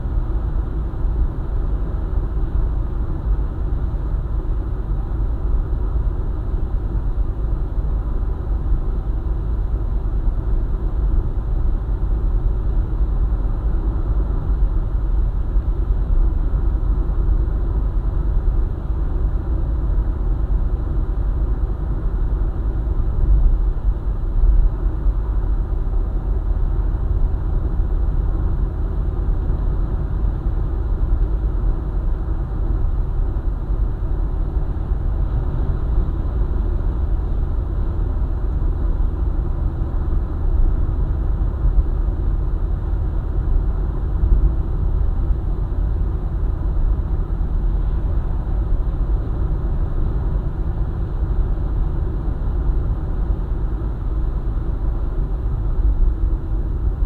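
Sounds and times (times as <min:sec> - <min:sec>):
car driving on highway: 0:00.0 - 0:57.0.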